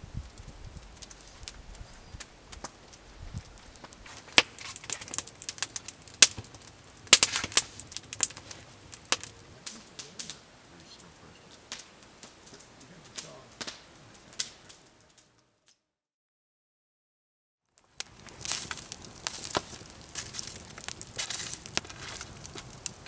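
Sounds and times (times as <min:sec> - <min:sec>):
campfire crackling: 0:00.0 - 0:15.6, 0:17.7 - 0:23.0.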